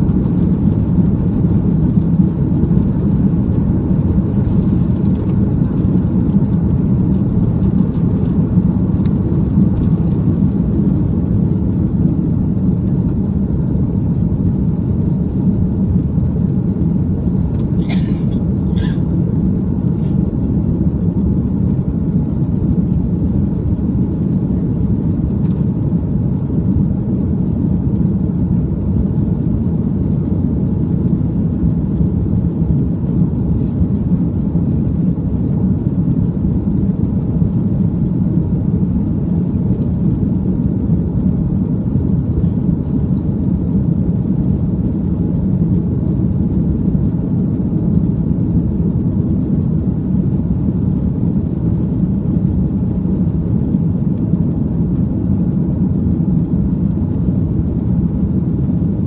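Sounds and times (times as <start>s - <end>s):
jet cabin engine rumble: 0.0s - 59.0s.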